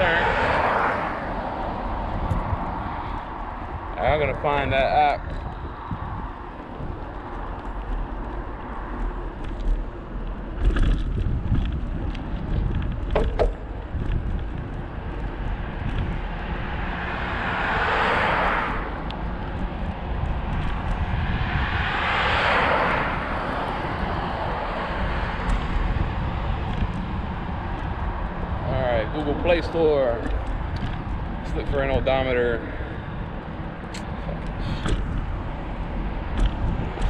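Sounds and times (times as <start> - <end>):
passing traffic rushing: 0.0 - 37.0
wind buffeting microphone: 0.0 - 37.0.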